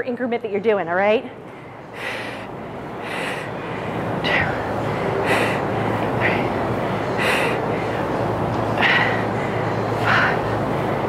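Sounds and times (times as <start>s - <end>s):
low hum: 1.3s - 11.0s
woman breathing hard: 1.4s - 10.7s
steady rushing noise: 1.6s - 11.0s.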